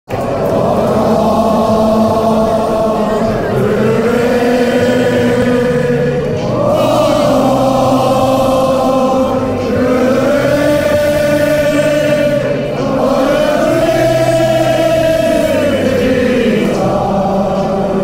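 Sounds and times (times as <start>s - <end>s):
many voices singing slowly: 0.1s - 18.0s.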